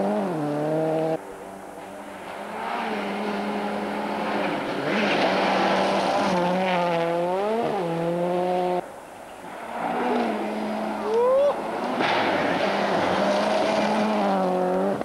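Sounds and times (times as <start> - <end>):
rally car engine: 0.0 - 15.0
second car engine passing: 2.1 - 8.8, 9.4 - 15.0.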